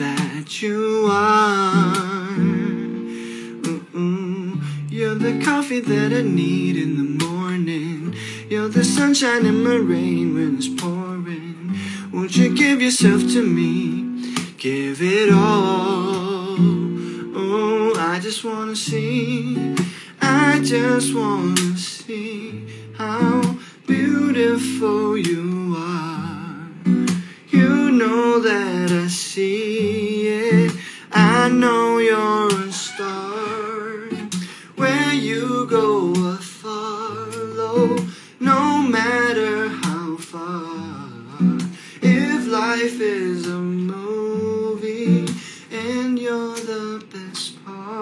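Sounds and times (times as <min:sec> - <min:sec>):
acoustic guitar: 0:00.0 - 0:48.0
man singing: 0:00.0 - 0:48.0.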